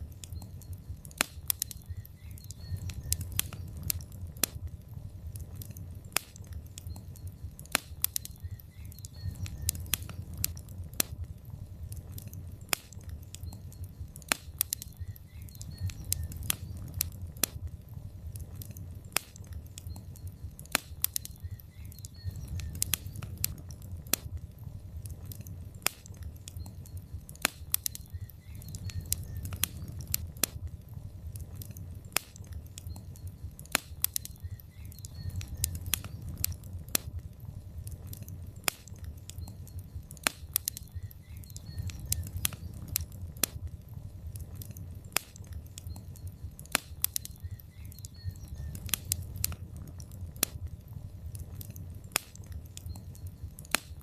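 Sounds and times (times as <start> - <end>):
burning logs crackling and popping: 0.0 - 54.0
flames rumbling: 0.0 - 54.0.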